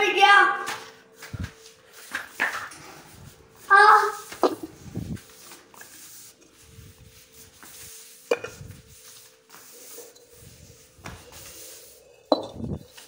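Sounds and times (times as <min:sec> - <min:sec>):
clay pots scraping on tiles: 0:02.1 - 0:13.0.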